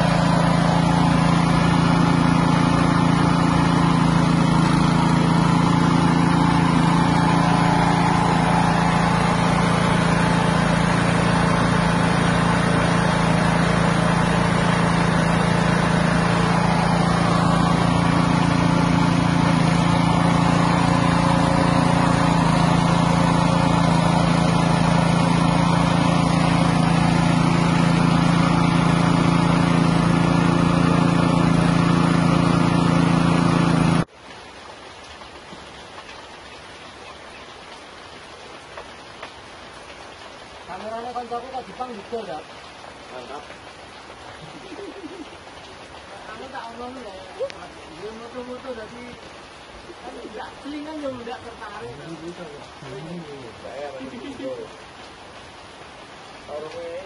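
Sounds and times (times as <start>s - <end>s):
small engine running steadily: 0.0s - 57.0s.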